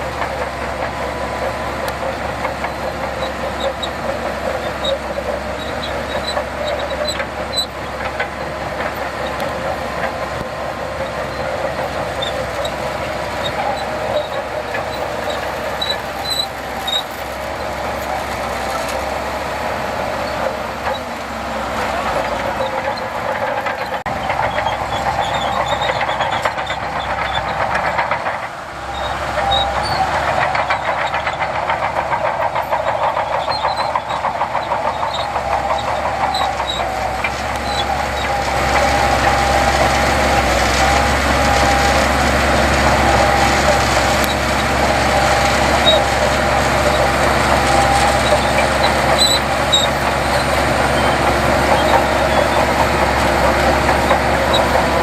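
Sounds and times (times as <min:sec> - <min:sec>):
earthmoving machinery engine clatter: 0:00.0 - 0:55.0.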